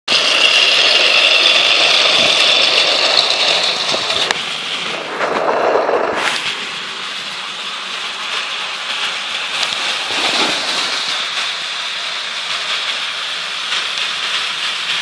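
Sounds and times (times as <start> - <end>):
low rattling noise: 0.1 - 15.0
toy train whirring on track: 0.1 - 15.0.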